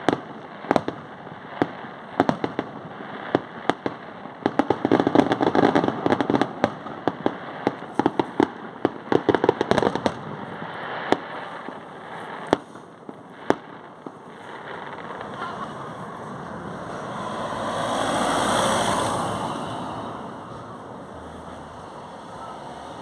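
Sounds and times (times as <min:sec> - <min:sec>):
firework bangs: 0:00.0 - 0:23.0
fireworks cracking and popping: 0:00.0 - 0:23.0.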